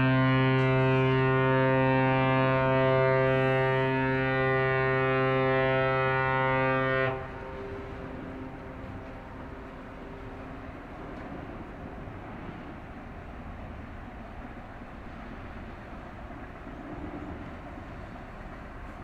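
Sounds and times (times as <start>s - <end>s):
ship horn long blast: 0.0s - 19.0s.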